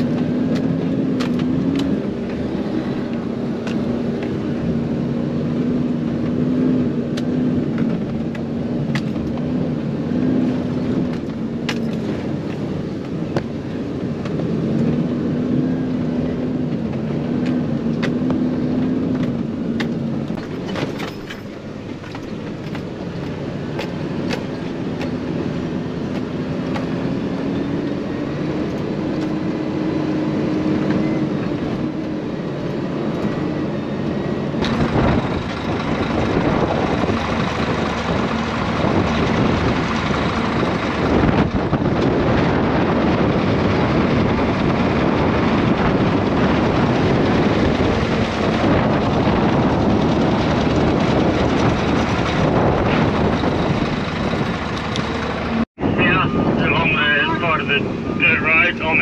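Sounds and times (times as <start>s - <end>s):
steady rushing noise: 0.0s - 59.0s
truck engine running: 0.0s - 59.0s.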